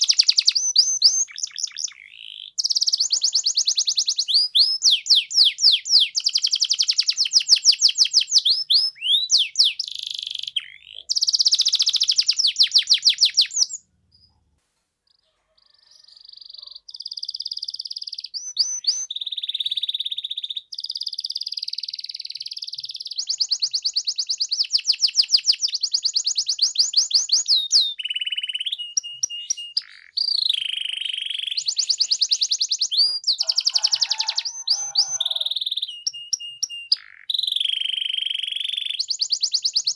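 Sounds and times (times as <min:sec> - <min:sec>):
canary singing trills: 0:00.0 - 0:14.5, 0:15.1 - 0:39.9.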